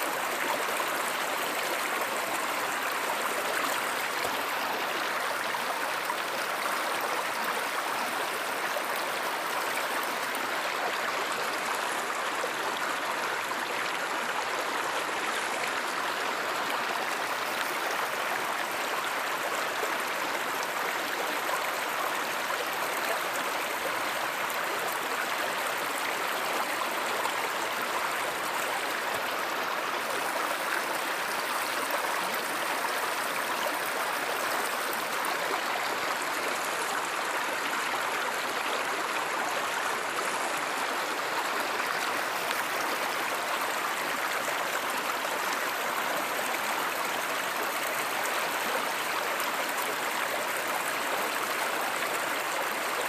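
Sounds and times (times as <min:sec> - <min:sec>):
stream water rushing and babbling: 0:00.0 - 0:53.0.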